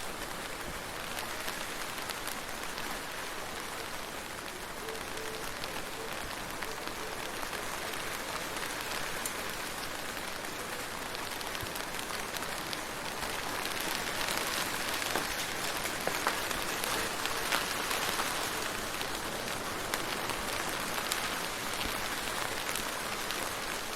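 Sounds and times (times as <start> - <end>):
steady rain hiss: 0.0 - 23.9
rain drop ticks: 3.6 - 23.9.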